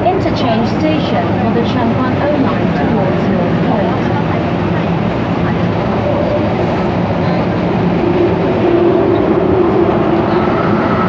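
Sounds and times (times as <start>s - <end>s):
metro car wheels rumbling: 0.0s - 11.0s.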